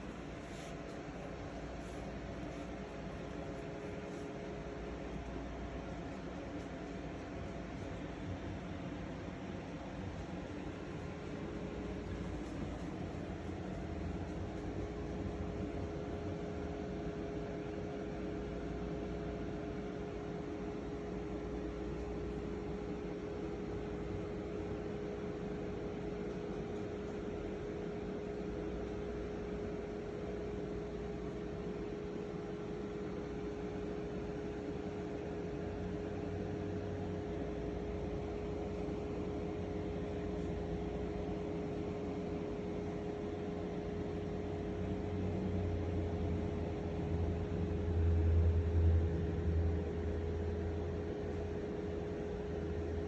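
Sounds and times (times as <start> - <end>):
steady hum with hiss: 0.0 - 53.0.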